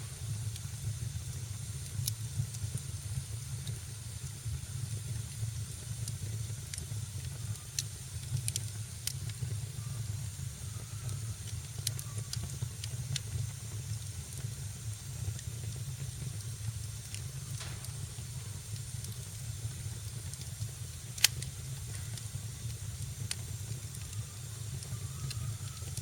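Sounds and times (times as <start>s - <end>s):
wood fire crackling in a fireplace: 0.0s - 26.0s.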